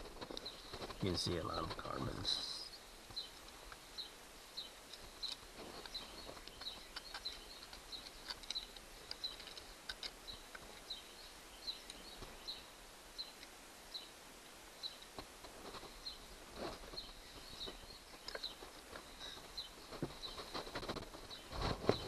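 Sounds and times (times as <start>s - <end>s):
bird chirping: 0.0s - 14.2s, 14.8s - 22.0s.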